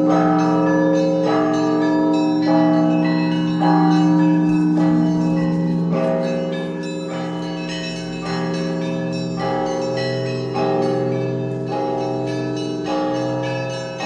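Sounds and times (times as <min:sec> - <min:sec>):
hum of large bells: 0:00.0 - 0:14.0.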